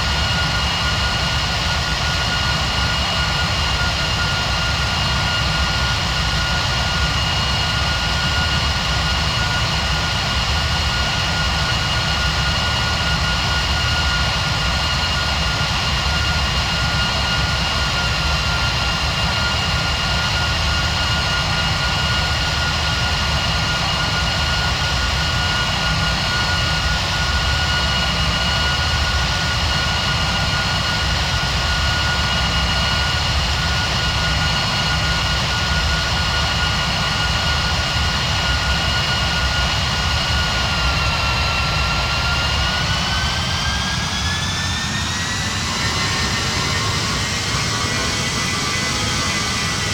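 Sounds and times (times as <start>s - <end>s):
high engine whine: 0.0s - 49.9s
jet engine rumble in cabin: 0.0s - 49.9s.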